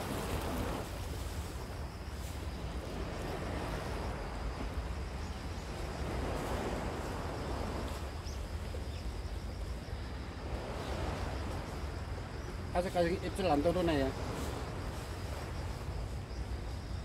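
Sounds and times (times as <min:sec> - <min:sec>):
surf on rocky shore: 0:00.0 - 0:17.0
wind rumbling on microphone: 0:00.0 - 0:17.0.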